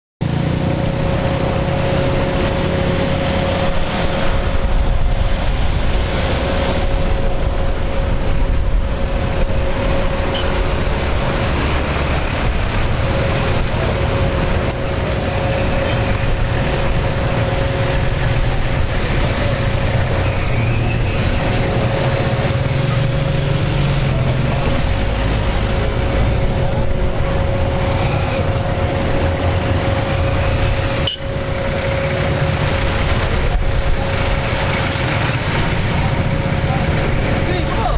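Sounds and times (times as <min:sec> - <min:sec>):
jet aircraft rush and rumble: 0:00.2 - 0:37.9
jet engine whine: 0:00.5 - 0:37.9.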